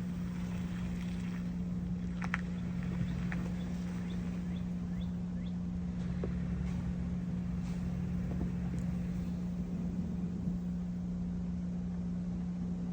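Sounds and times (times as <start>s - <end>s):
car engine running: 0.0s - 11.3s.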